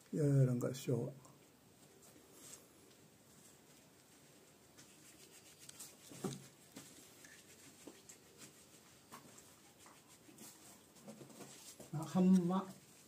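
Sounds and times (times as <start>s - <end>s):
faint rustles: 1.4s - 13.0s.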